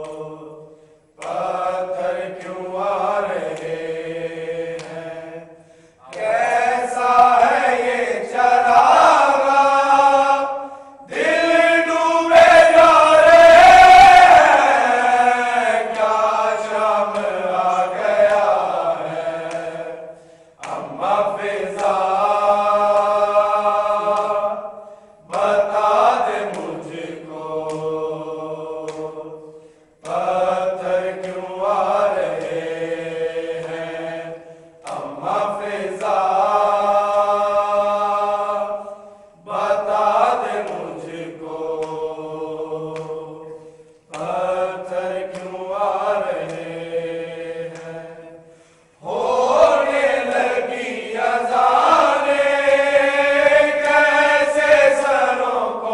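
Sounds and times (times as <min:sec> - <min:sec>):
men chanting in unison: 0:00.0 - 0:55.9.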